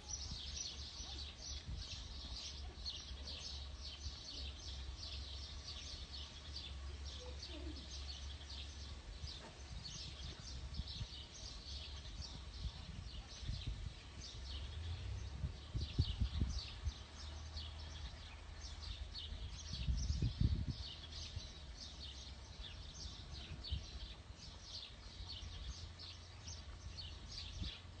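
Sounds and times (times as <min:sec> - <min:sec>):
low rumble on microphone: 0:00.0 - 0:28.0
small birds chirping: 0:00.0 - 0:28.0.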